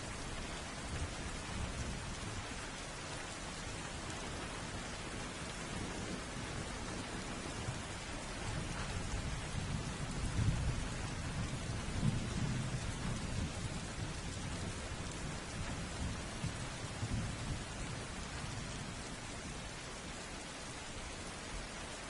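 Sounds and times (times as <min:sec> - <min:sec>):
low rumble of thunder: 0:00.0 - 0:22.0
steady rain falling: 0:00.0 - 0:22.0.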